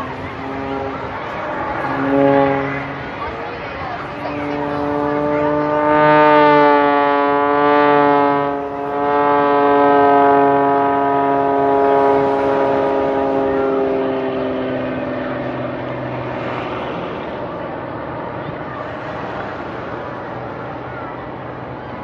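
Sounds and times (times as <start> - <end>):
propeller plane flying past: 0.0 - 22.0.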